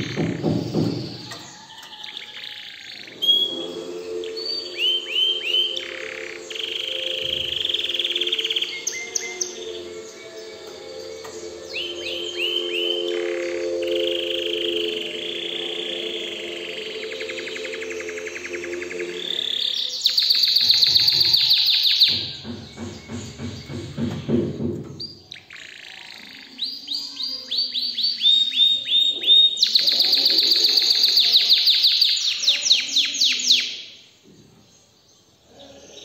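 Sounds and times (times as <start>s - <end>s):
canary singing trills: 0.0s - 34.1s.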